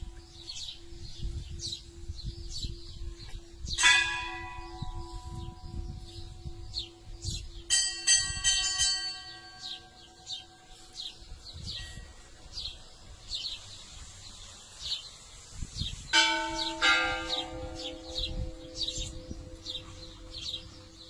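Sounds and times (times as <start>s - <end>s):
church bell tolling: 0.0s - 12.8s, 16.2s - 21.0s
bird chirping: 0.0s - 21.0s.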